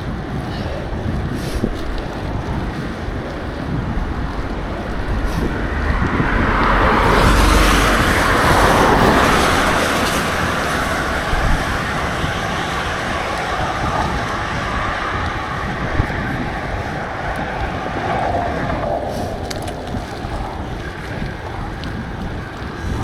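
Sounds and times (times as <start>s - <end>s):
wind rushing over microphone: 0.0s - 23.0s
bicycle ride hiss: 0.2s - 23.0s.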